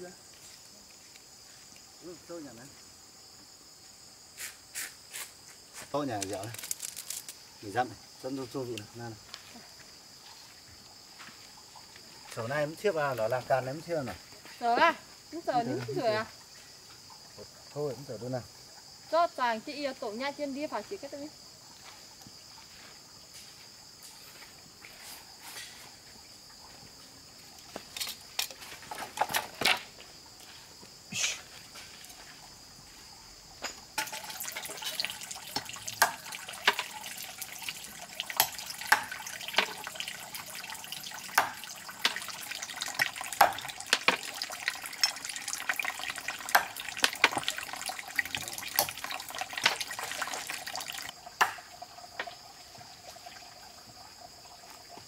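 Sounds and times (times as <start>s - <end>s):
high insect trill: 0.0s - 55.0s
water splashing and trickling: 0.0s - 55.0s.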